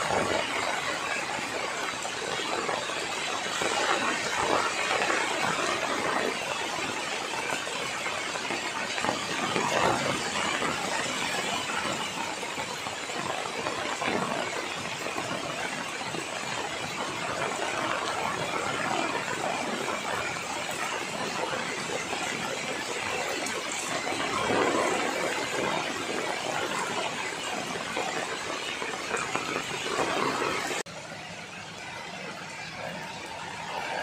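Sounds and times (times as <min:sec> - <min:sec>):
heavy rain on tree foliage: 0:00.0 - 0:34.0.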